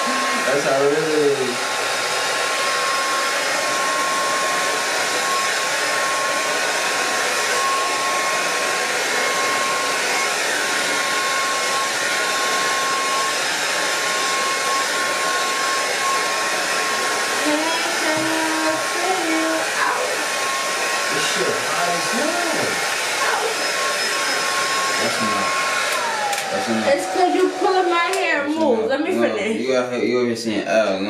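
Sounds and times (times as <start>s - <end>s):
hair dryer blowing: 0.0s - 29.9s.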